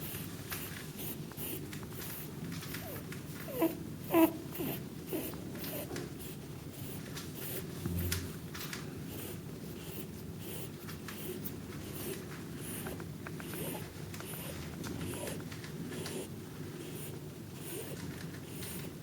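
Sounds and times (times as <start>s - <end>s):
rabbit soft snuffles: 0.0s - 8.4s, 9.0s - 19.0s
rabbit squeaky wheeze: 1.0s - 7.7s, 9.1s - 19.0s.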